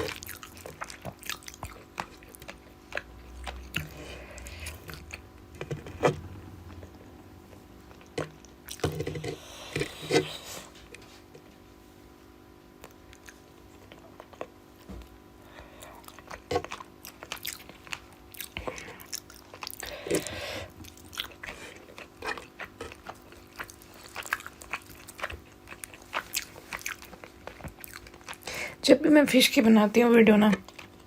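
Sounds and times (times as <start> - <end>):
person chewing food: 0.0 - 11.6, 12.7 - 28.8, 30.5 - 31.0
faint steady hum: 0.0 - 31.0.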